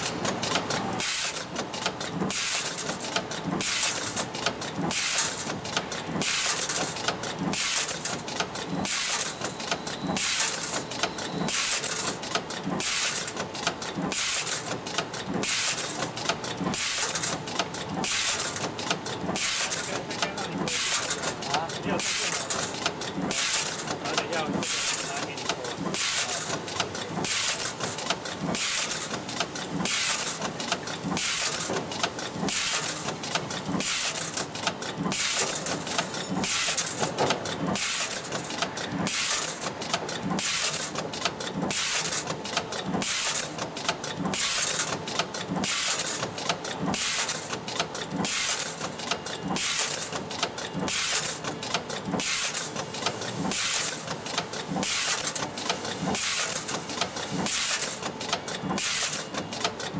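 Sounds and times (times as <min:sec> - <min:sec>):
metallic clicks and clacks: 0:00.0 - 0:59.9.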